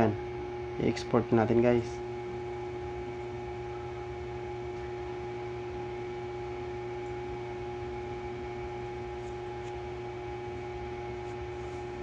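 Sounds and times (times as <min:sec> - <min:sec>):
constant low hum: 0:00.0 - 0:12.0
faint steady tones: 0:00.0 - 0:12.0.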